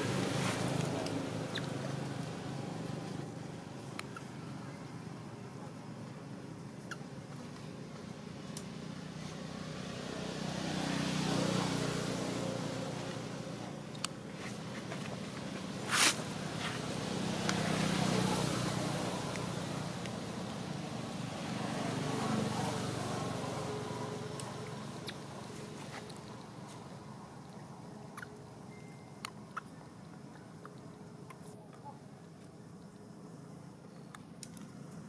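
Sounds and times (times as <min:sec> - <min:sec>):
vehicles passing: 0:00.0 - 0:35.0.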